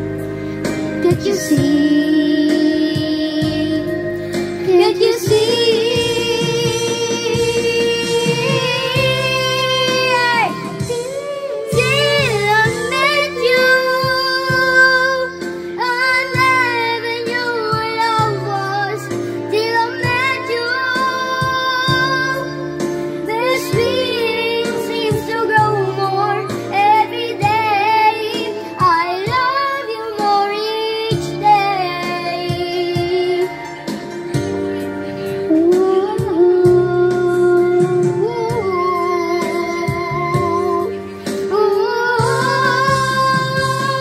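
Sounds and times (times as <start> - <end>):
boy singing a ballad: 0.0 - 44.0
karaoke backing track: 0.0 - 44.0.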